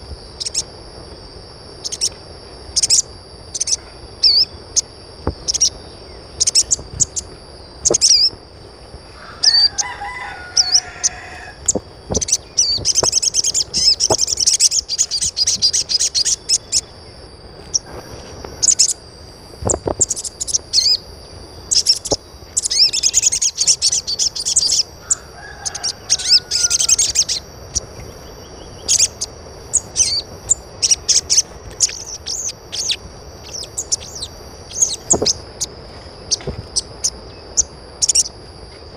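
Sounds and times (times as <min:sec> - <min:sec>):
birds chirping: 0:00.0 - 0:38.9
low bird calls: 0:00.0 - 0:38.9.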